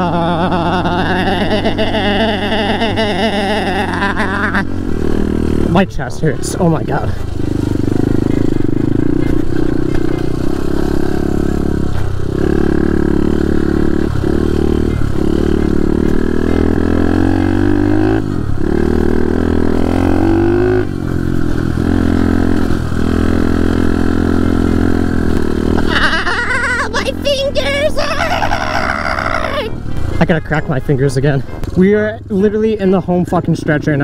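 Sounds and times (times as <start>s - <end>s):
motorbike engine accelerating: 0.0s - 34.0s.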